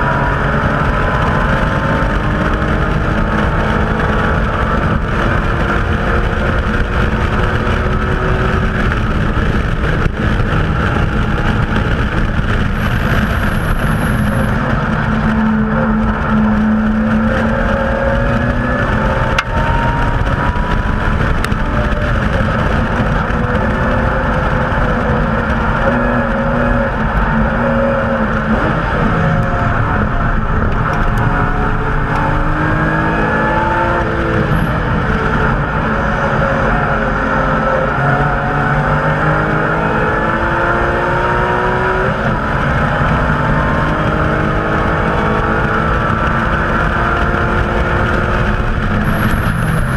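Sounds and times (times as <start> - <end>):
car engine revving hard: 0.0 - 49.9
wind noise: 0.0 - 49.9.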